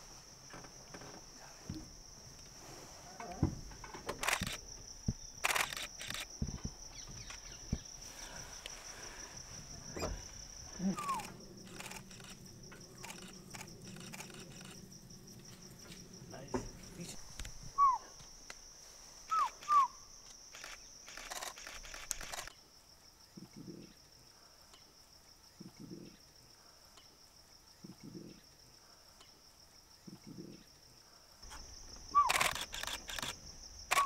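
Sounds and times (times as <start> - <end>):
insect chirring: 0.0 - 34.0.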